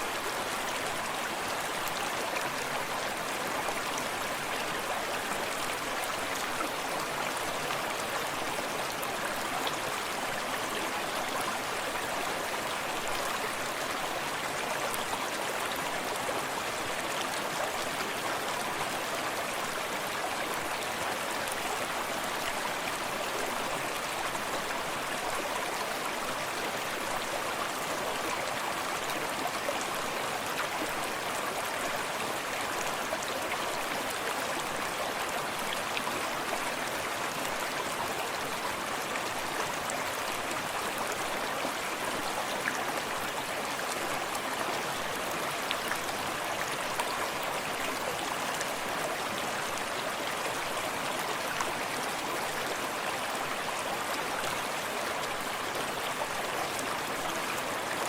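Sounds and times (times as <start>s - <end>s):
creek flowing water: 0.0s - 58.0s.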